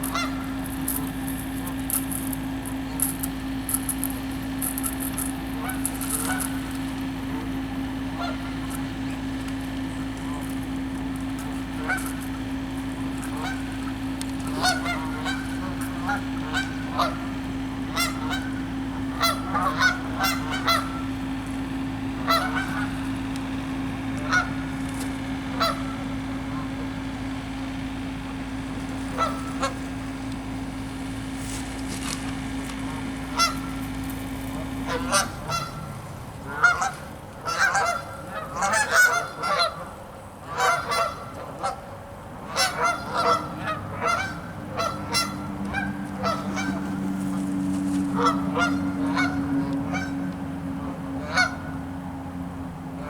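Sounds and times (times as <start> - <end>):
geese honking: 0.0 - 53.0
steady low hum: 0.0 - 53.0.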